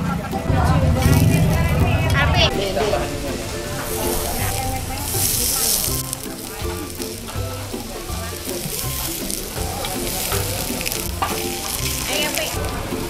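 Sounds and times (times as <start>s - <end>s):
background music: 0.0s - 13.0s
steak plates sizzling: 0.0s - 13.0s.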